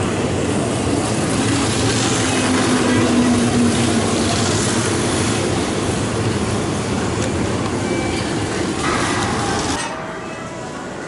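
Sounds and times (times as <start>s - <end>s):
electric train running on rails: 0.0s - 11.0s.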